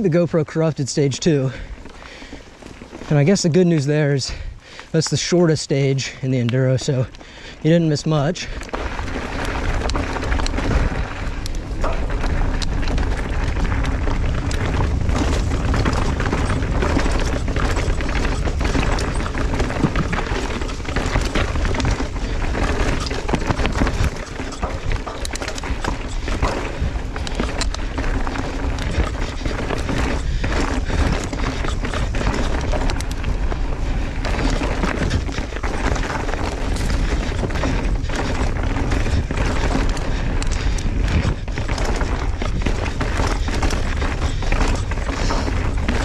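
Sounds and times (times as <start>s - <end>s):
bike rattling and knocking: 0.0s - 46.0s
wind rumble on microphone: 8.6s - 46.0s.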